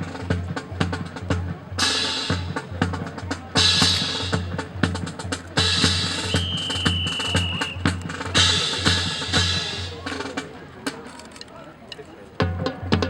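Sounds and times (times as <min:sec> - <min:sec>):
snare and bass drum cadence: 0:00.0 - 0:11.2.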